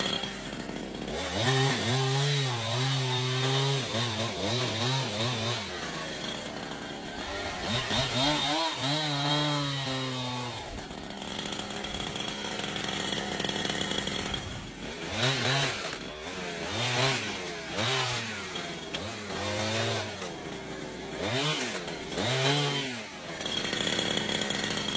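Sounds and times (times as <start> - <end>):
chainsaw engine revving: 0.0 - 24.9.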